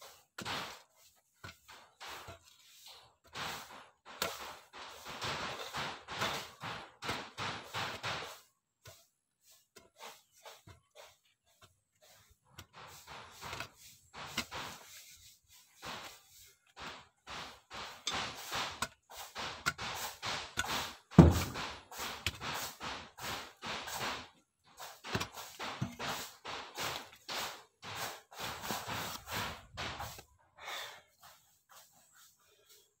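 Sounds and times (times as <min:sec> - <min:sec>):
mattock striking packed earth: 0:00.2 - 0:11.2, 0:12.0 - 0:30.2.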